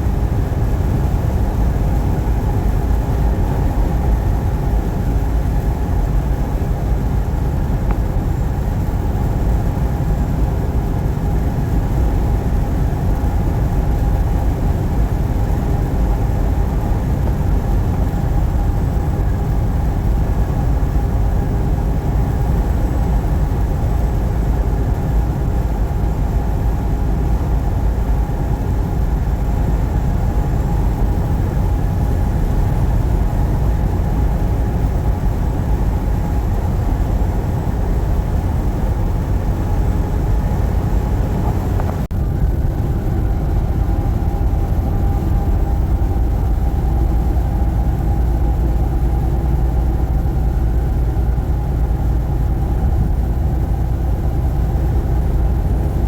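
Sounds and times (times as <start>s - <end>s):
steady hum: 0.0s - 56.0s
truck engine and road noise: 0.0s - 56.0s.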